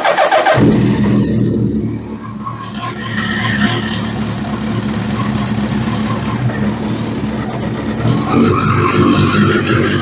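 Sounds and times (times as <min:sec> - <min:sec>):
motorcycle engine idling: 0:00.0 - 0:08.5.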